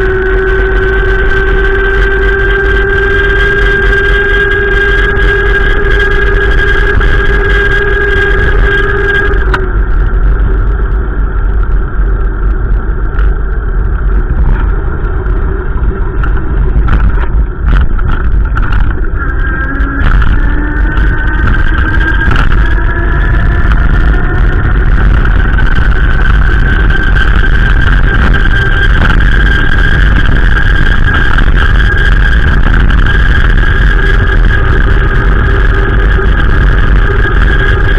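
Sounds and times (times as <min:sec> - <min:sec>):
vehicle engine hum: 0:00.0 - 0:37.9.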